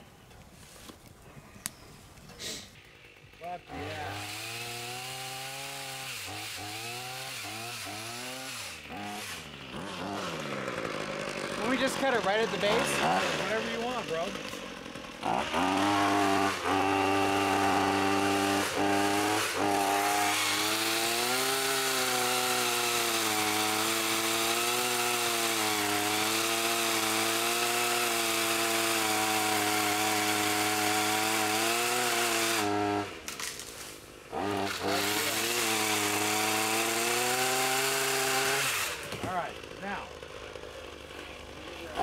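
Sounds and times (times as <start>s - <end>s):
pole saw cutting wood: 2.4s - 42.0s.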